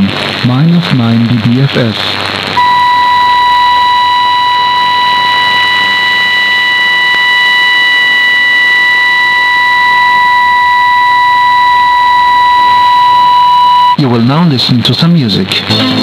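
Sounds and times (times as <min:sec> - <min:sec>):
steady pure test tones: 0:00.0 - 0:14.1
radio band noise hiss: 0:00.0 - 0:16.0.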